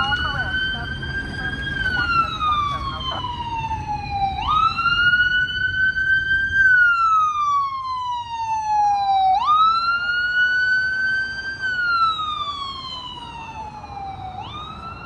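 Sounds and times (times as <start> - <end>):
ambulance siren wailing: 0.0 - 15.0.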